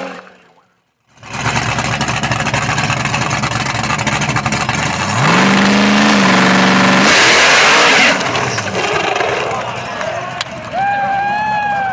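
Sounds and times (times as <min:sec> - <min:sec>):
car engine running and revving: 0:01.1 - 0:10.7
harsh rush: 0:01.1 - 0:11.9.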